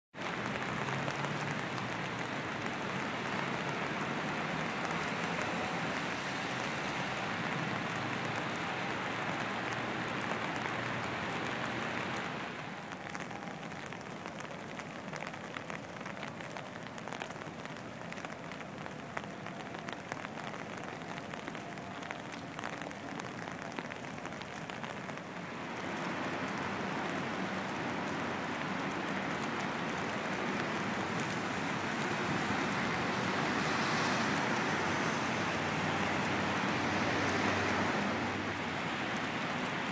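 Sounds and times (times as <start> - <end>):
rain falling on wet paving: 0.1 - 39.9.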